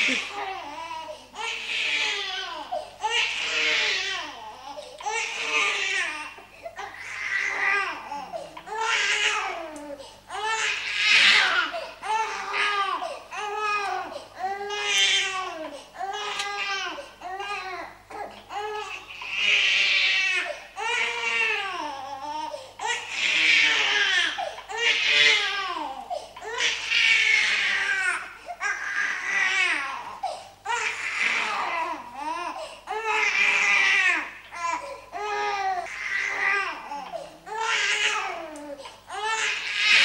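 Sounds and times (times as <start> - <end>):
baby crying: 0.0 - 40.0.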